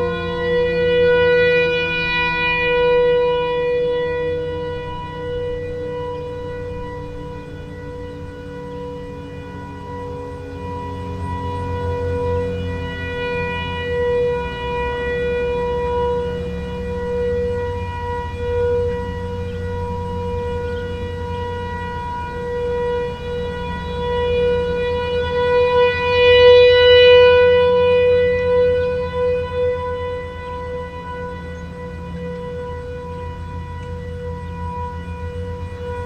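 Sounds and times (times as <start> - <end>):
outdoor warning siren steady tone: 0.0 - 36.0.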